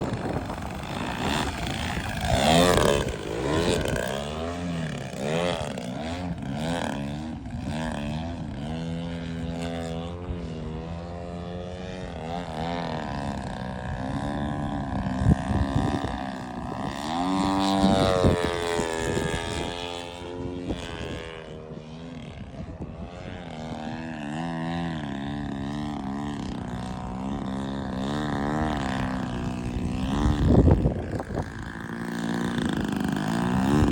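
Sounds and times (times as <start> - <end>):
model airplane motor and propeller: 0.0 - 33.9.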